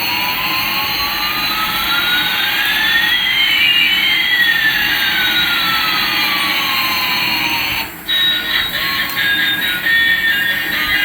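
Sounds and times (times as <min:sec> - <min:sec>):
synthesized jet engine hiss: 0:00.0 - 0:11.0
whistling tones: 0:00.0 - 0:11.0.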